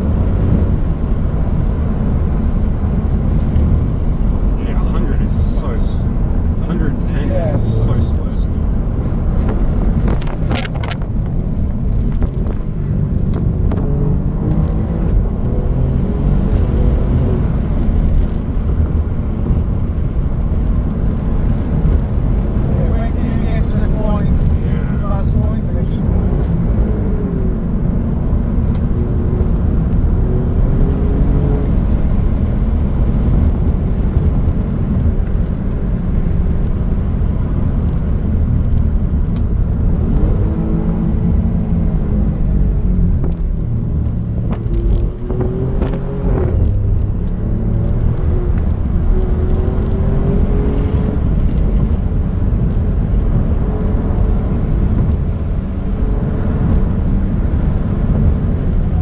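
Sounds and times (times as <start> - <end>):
car engine accelerating: 0.0 - 59.0
road and tyre noise: 0.0 - 59.0.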